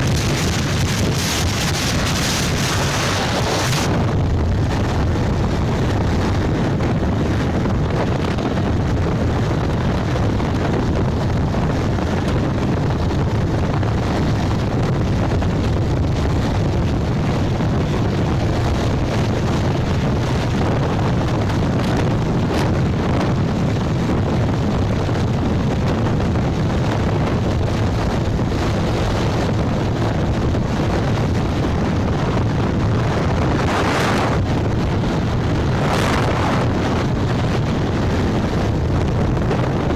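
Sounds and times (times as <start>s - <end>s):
motorbike rumble: 0.0s - 39.9s
wind rushing over microphone: 0.0s - 39.9s.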